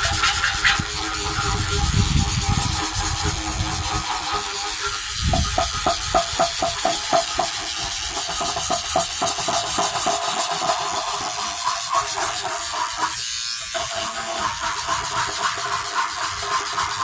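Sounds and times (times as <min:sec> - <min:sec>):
steady hiss: 0:00.0 - 0:17.0
toothbrush scrubbing plastic: 0:00.0 - 0:17.0.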